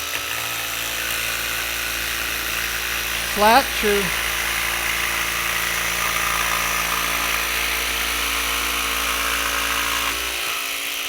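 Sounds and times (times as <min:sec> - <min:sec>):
jigsaw cutting a board: 0:00.0 - 0:03.1, 0:04.8 - 0:11.0.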